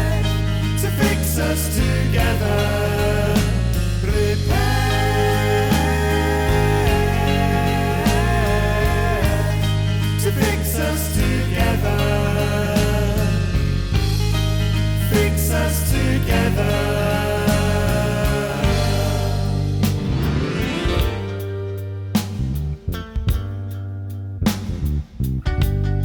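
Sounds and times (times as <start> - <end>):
rock band playing: 0.0 - 23.7.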